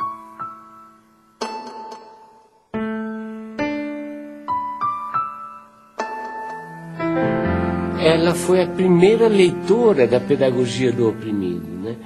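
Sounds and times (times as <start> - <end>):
slow quiet piano: 0.0 - 12.0.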